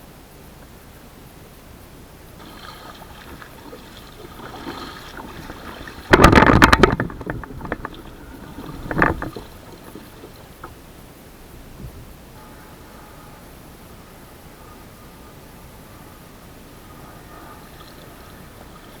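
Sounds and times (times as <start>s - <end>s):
kayak paddle splashing water: 2.4s - 11.0s, 12.4s - 19.0s.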